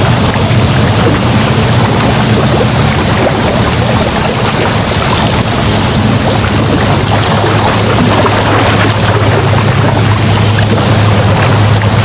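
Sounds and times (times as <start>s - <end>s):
low hum: 0.0s - 12.0s
ocean surf rushing: 0.0s - 12.0s.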